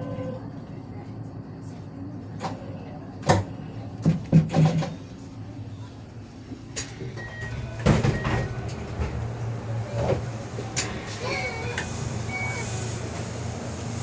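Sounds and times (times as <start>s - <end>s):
train low hum: 0.0s - 14.0s.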